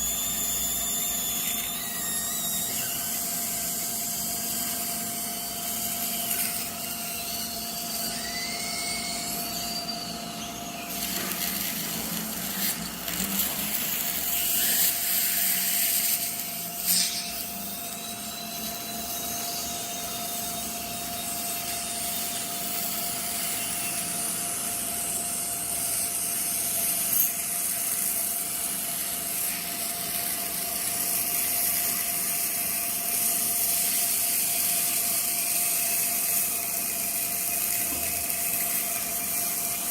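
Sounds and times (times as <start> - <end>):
dental drill whining: 0.0 - 39.9.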